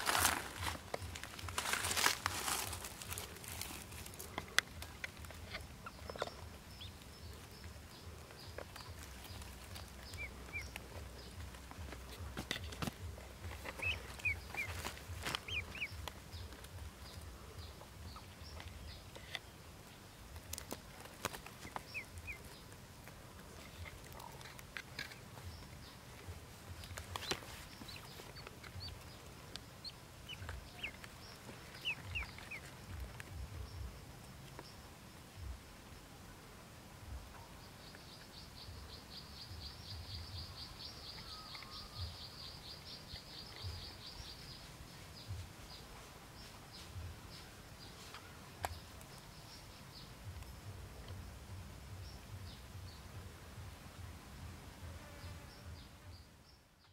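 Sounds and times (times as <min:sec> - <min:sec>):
ducklings peeping: 0:00.0 - 0:34.9, 0:37.2 - 0:51.3.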